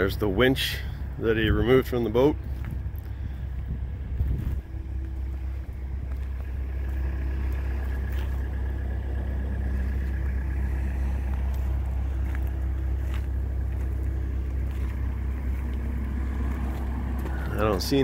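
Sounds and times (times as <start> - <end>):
motor rumbling: 0.0 - 18.0.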